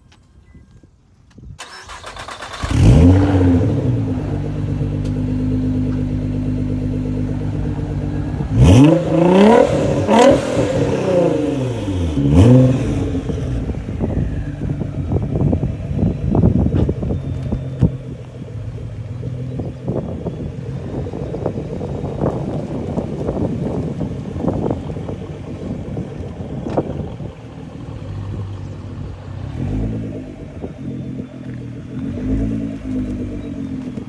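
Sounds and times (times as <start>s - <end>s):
car engine revving loudly: 2.4s - 17.1s, 20.8s - 34.0s.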